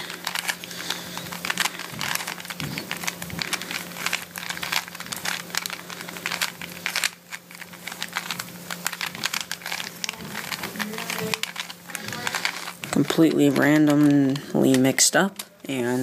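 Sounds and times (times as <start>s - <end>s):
puzzle cube clicking: 0.1s - 15.5s.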